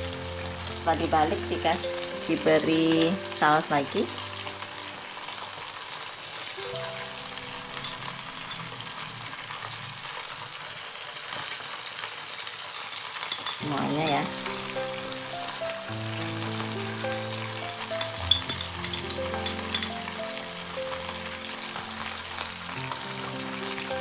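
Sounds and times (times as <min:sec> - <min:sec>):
shrimp sizzling in a pan: 0:00.0 - 0:24.0.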